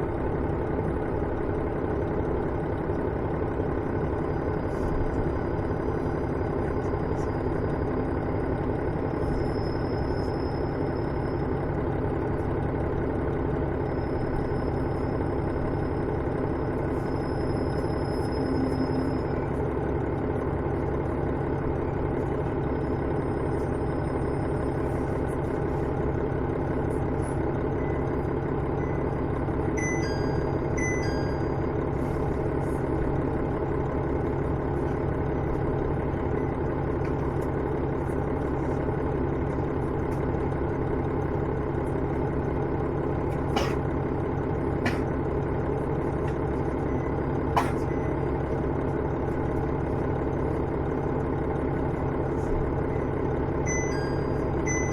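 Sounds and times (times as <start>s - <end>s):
diesel railcar engine running: 0.0s - 54.9s
train running noise: 0.0s - 54.9s.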